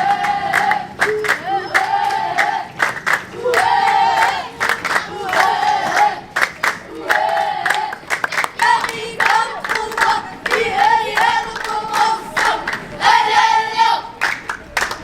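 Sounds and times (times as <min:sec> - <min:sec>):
voices singing together: 0:00.0 - 0:14.6
hand claps: 0:00.2 - 0:12.8, 0:14.2 - 0:15.0.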